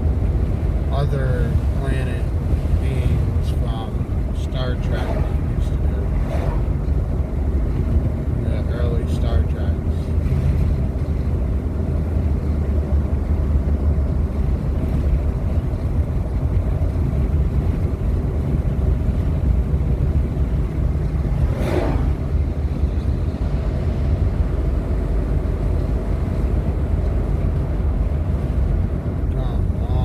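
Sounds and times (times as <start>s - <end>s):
road and engine rumble in cabin: 0.0s - 30.0s.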